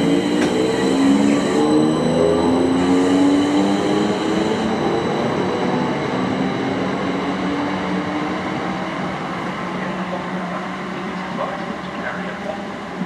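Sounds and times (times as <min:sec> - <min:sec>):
passenger train passing: 0:00.0 - 0:13.0.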